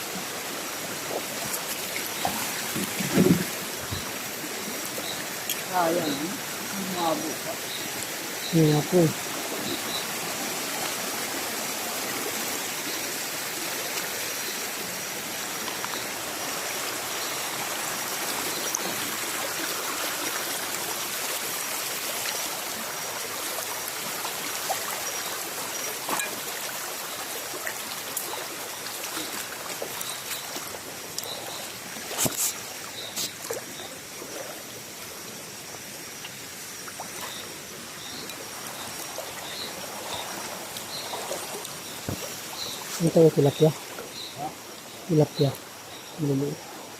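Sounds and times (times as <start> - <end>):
stream water trickling: 0.0 - 46.9.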